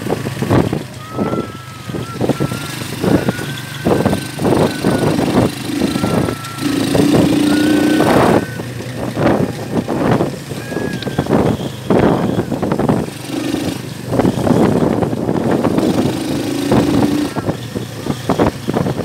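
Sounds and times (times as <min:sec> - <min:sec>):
vehicle engine: 0:00.0 - 0:19.0
vehicle jolting over bumps: 0:00.0 - 0:19.0.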